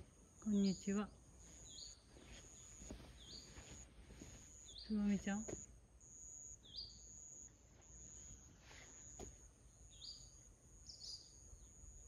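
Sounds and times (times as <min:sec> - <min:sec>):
bird chirps: 0:00.0 - 0:03.8, 0:04.5 - 0:12.0.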